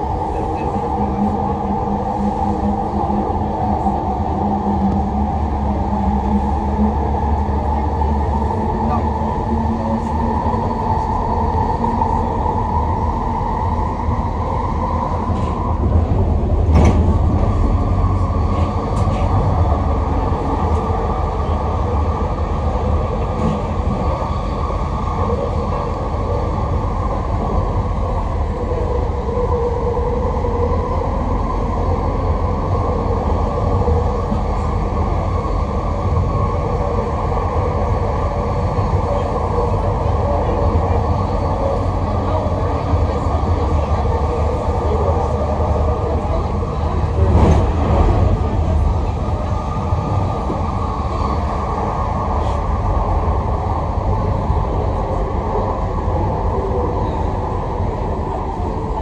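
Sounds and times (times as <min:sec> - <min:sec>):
train car rumbling in motion: 0:00.0 - 0:59.0.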